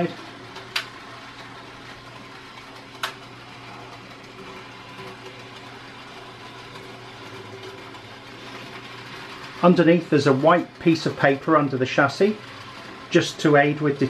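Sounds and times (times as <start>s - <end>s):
model train motor humming: 0.0s - 14.0s.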